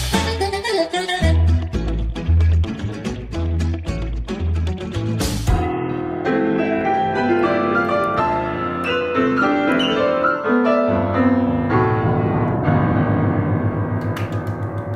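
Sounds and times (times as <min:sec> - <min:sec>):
upright piano playing: 0:00.4 - 0:14.9.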